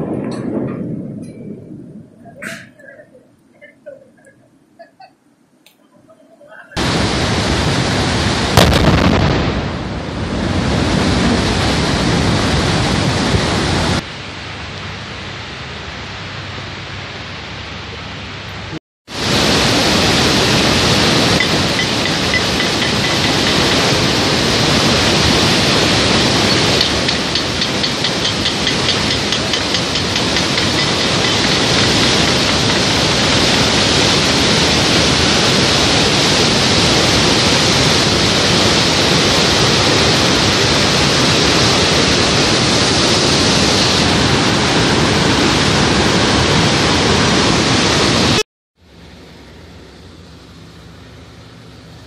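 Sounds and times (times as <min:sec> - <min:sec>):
river rushing through rapids: 0:05.9 - 0:09.0, 0:09.8 - 0:51.8.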